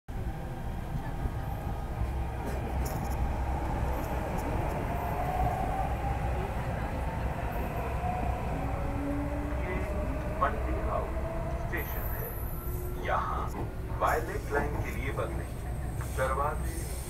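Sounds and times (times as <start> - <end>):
faint train whine: 0.1 - 17.0
train rumble inside carriage: 0.1 - 17.0.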